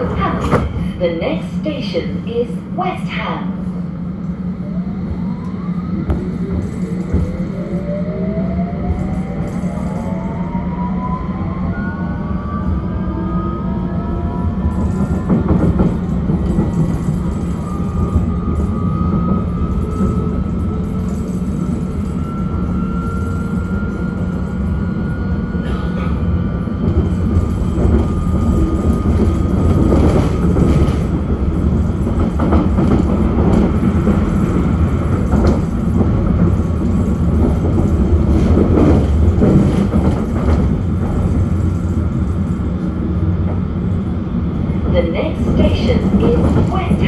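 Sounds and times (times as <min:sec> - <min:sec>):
train rumble with whine: 0:00.0 - 0:47.0.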